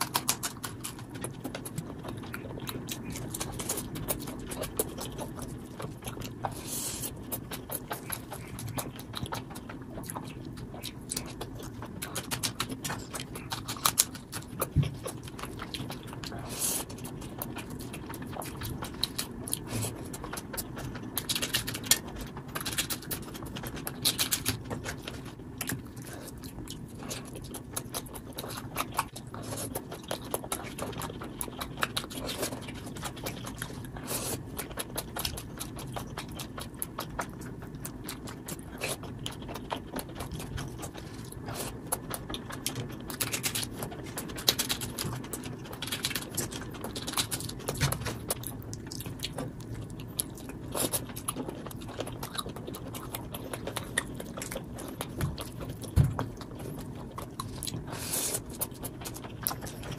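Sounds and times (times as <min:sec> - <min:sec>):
chewing and mouth clicks: 0:00.0 - 0:59.9.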